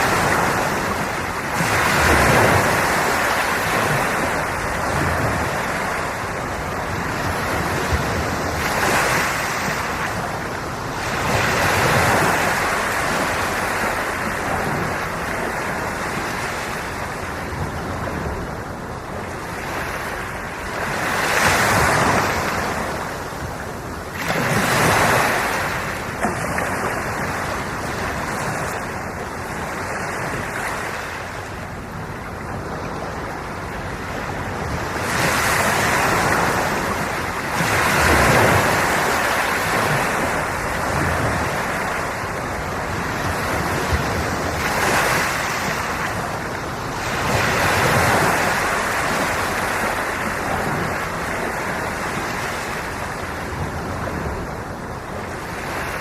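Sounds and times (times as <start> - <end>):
sea waves surf: 0.0 - 56.0.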